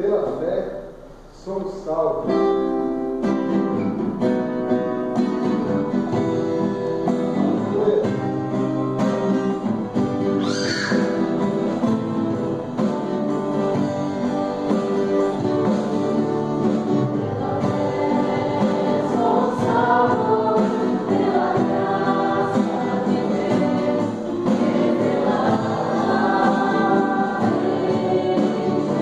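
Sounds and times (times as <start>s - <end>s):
live band music: 2.4s - 29.0s.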